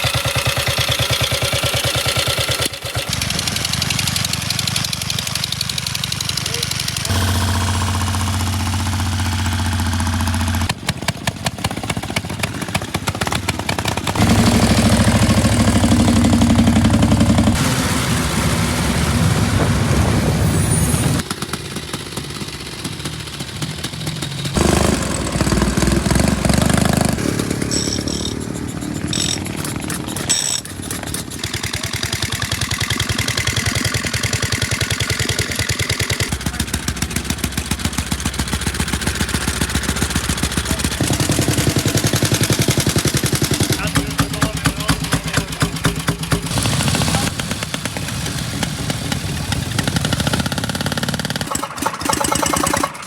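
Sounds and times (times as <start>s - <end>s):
motorcycle engines running: 0.0s - 53.0s.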